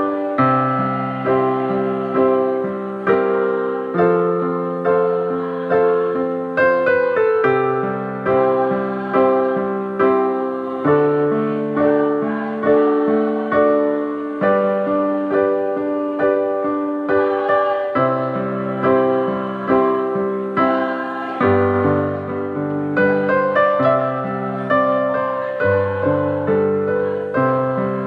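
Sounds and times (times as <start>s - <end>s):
keyboard piano chords: 0.0s - 28.0s.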